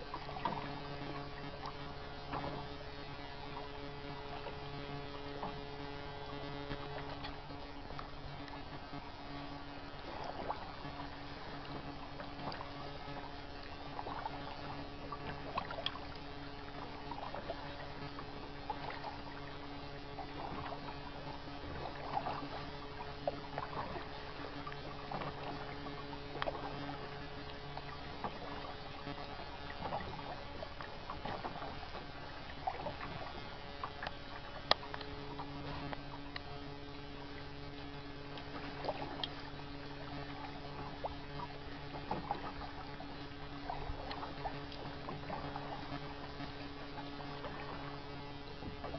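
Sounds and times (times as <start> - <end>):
low electrical hum: 0.0 - 48.9
paddle swishing through water: 0.0 - 48.9.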